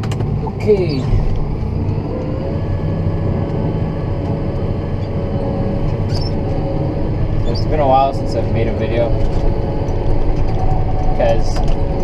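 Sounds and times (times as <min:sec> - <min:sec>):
steady whine: 0:00.0 - 0:12.0
tractor diesel engine running: 0:00.0 - 0:12.0.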